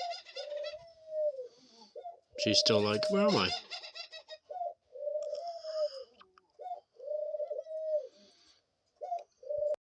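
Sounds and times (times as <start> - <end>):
dove cooing: 0.0 - 9.8.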